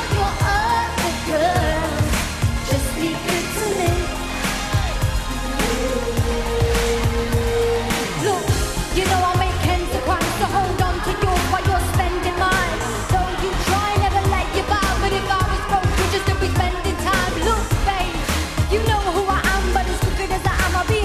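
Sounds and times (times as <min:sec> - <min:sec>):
heavy bass and drum beat: 0:00.0 - 0:21.0
woman singing pop song: 0:00.0 - 0:21.0.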